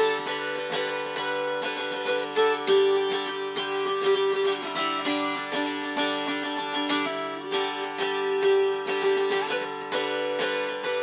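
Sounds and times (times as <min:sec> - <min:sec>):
dulcimer strummed: 0:00.0 - 0:11.0.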